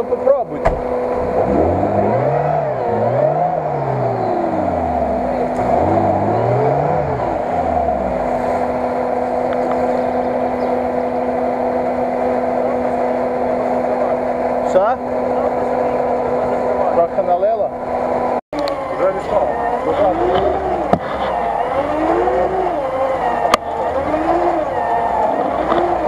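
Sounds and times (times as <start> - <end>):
car engine revving: 0.1 - 26.0.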